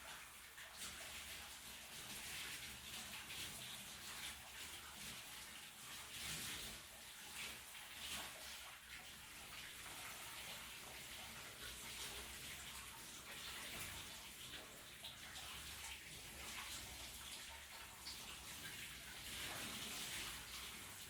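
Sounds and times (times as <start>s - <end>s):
shower water spraying and splashing: 0.0s - 21.0s.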